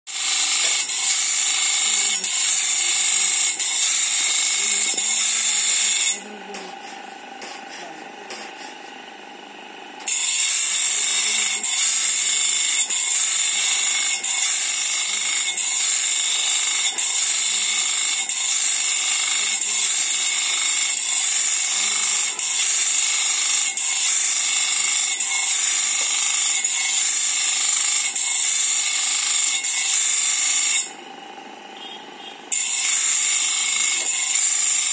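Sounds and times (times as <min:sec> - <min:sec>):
bench grinder grinding metal: 0:00.1 - 0:34.9.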